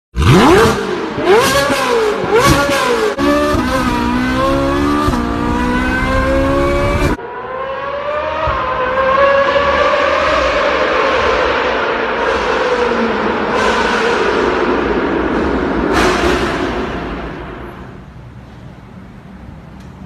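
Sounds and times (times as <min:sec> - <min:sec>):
car engine revving loudly: 0:00.2 - 0:17.6.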